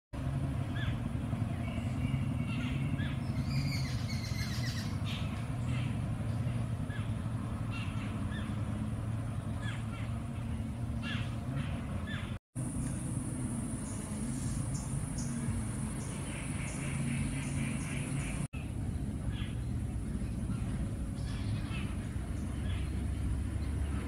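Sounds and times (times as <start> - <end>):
birds chirping: 0.2 - 24.0
low hum: 0.2 - 24.0.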